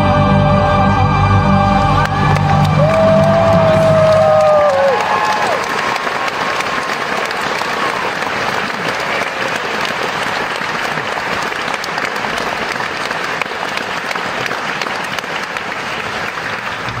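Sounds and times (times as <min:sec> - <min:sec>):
audience applauding: 0:01.8 - 0:17.0.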